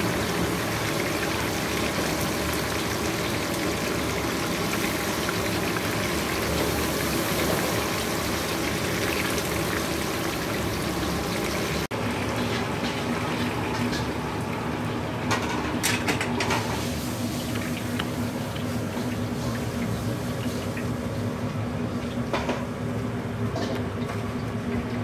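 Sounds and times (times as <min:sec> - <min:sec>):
hissing watery kitchen noise: 0:00.0 - 0:25.0.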